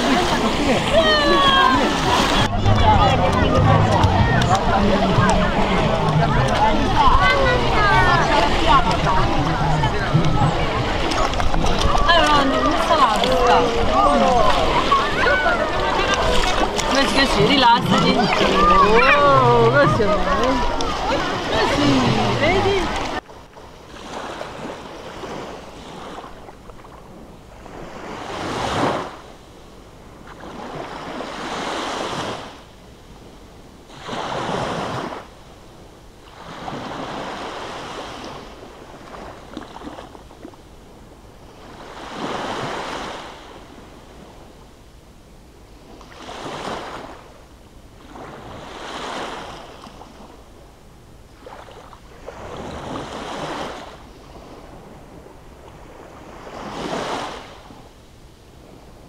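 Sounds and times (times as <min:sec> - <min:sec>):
small waves breaking on sand: 0:00.0 - 0:59.0.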